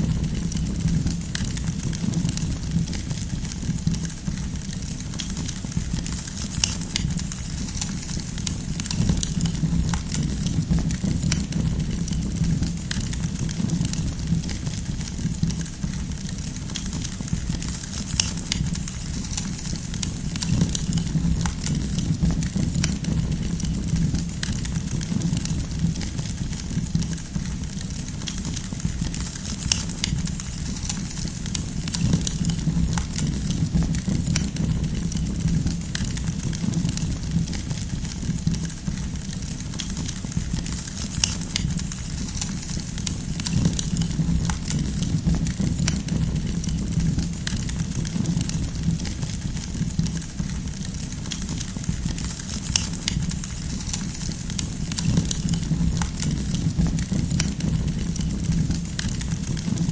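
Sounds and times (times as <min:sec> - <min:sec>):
firewood crackling and popping: 0:00.0 - 0:59.9
low rumble of fire: 0:00.0 - 0:59.9.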